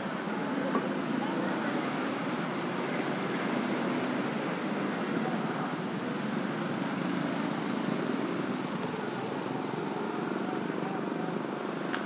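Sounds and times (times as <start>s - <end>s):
scooters and cars passing: 0.0s - 12.0s.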